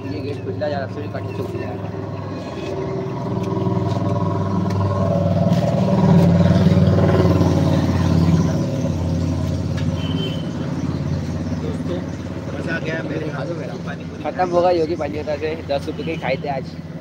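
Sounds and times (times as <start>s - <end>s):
motor vehicle engine running: 0.0s - 15.8s.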